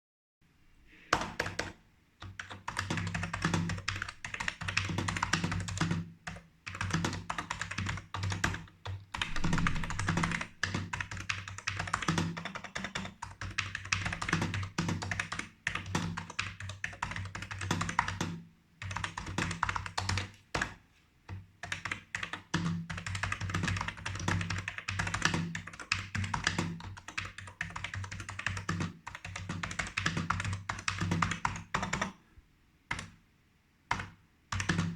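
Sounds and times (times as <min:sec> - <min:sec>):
keyboard keystrokes clattering: 0:01.1 - 0:20.8, 0:21.6 - 0:32.1.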